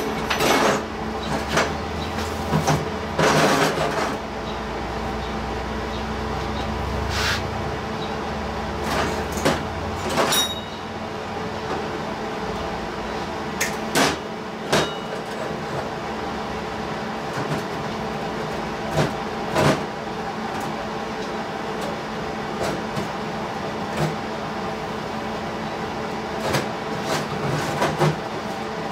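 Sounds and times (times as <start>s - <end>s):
machine hum: 0.0s - 28.9s.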